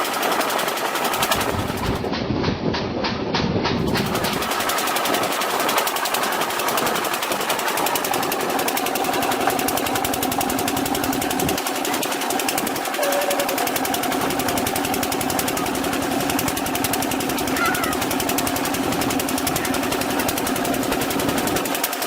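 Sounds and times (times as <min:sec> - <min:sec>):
machine rattling: 0:00.0 - 0:02.2, 0:03.6 - 0:22.0.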